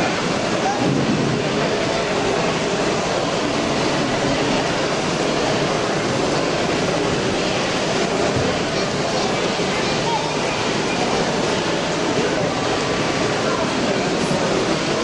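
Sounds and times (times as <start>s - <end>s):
busy hall murmur: 0.0s - 15.0s.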